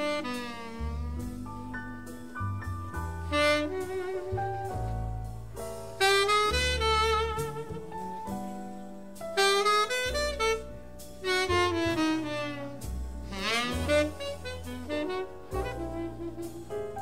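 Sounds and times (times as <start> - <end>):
saxophone melody with vibrato: 0.0 - 2.2, 3.0 - 5.2, 6.0 - 8.4, 9.4 - 17.0
double bass: 0.0 - 17.0
piano chords: 0.0 - 17.0.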